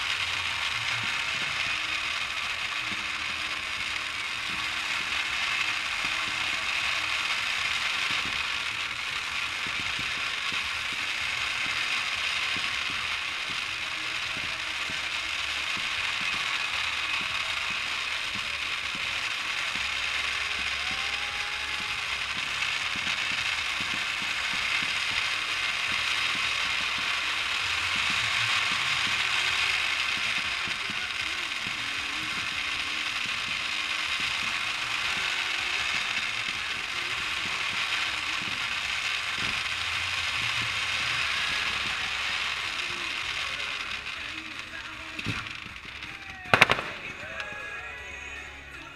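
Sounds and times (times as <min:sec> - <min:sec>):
firework fountains crackling: 0:00.0 - 0:48.9.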